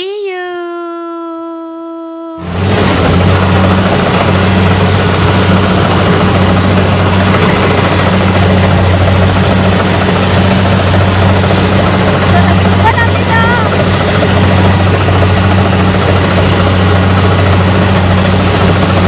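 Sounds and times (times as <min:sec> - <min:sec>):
combine harvester engine running: 0:02.4 - 0:19.0.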